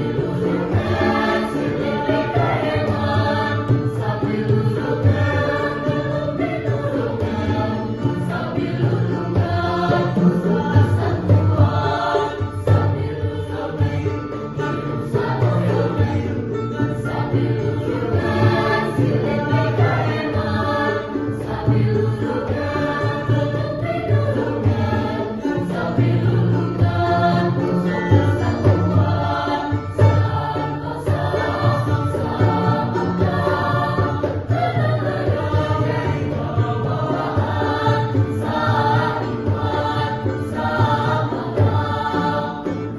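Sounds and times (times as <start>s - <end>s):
choir singing in harmony: 0.0s - 42.9s.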